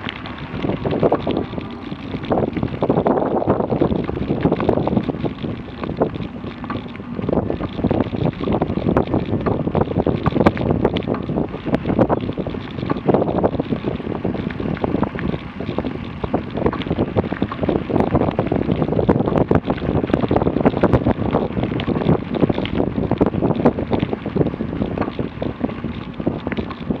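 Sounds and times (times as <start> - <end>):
small clicks and rattles: 0.0 - 27.0
wind noise on microphone: 0.0 - 27.0.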